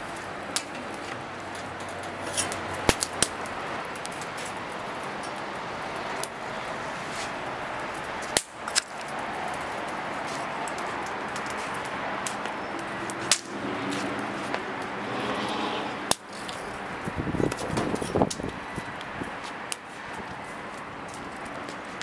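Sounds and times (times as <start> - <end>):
wood fire rushing: 0.0 - 22.0.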